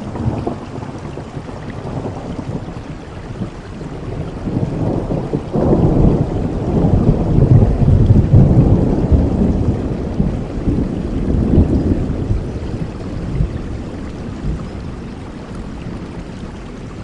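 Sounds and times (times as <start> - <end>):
low rolling thunder: 0.0 - 17.0
steady rain: 0.0 - 17.0.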